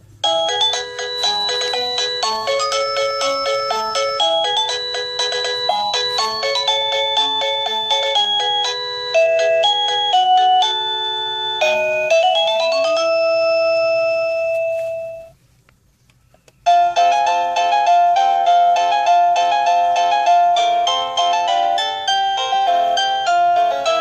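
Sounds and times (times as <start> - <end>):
electronic doorbell chime tune: 0.2 - 15.4, 16.7 - 24.0.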